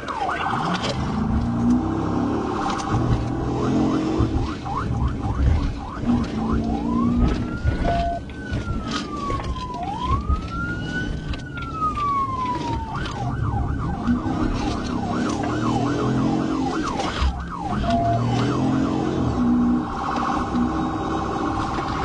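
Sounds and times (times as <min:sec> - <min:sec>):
car engine and road noise: 0:00.0 - 0:22.0
police siren wailing and yelping: 0:00.0 - 0:22.0.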